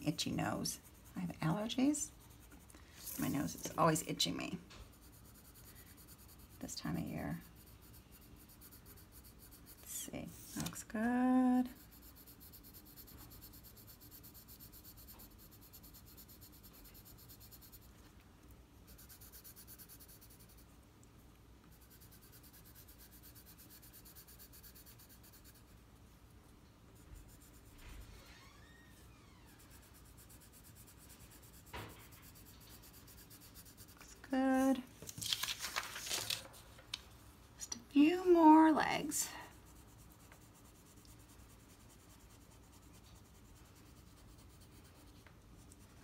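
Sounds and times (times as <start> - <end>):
pencil scratching on paper: 0.0 - 18.1, 18.8 - 20.7, 21.6 - 25.9, 27.0 - 28.1, 29.5 - 34.8, 38.1 - 46.0.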